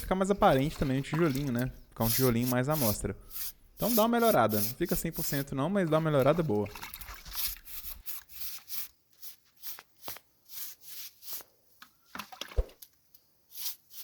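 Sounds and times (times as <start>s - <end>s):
broom scrubbing brick joints: 0.0s - 11.5s, 13.5s - 14.0s.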